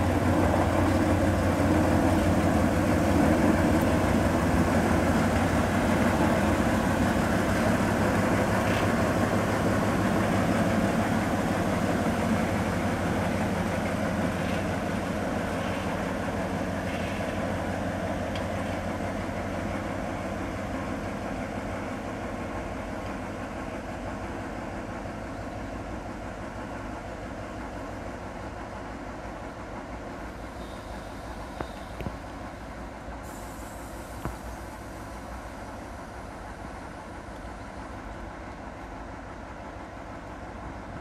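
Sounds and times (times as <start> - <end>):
locomotive diesel engine humming: 0.0 - 41.0.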